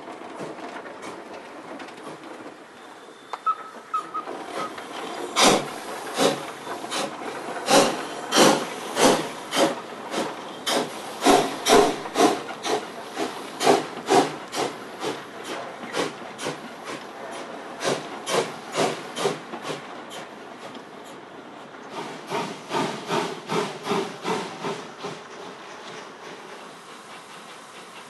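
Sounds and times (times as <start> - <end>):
steam locomotive chuffing: 0.0 - 28.0
steam hissing: 2.8 - 21.2, 21.9 - 28.0.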